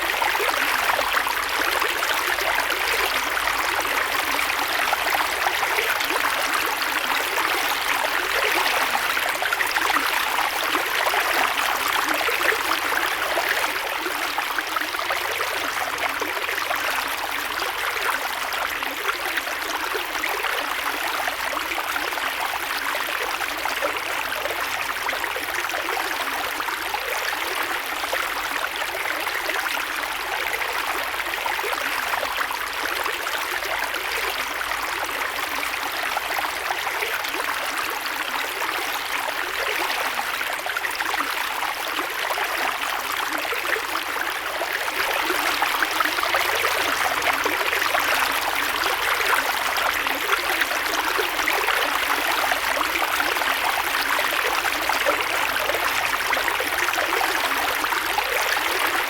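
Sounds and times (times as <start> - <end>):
creek water flowing over stones: 0.0 - 59.0.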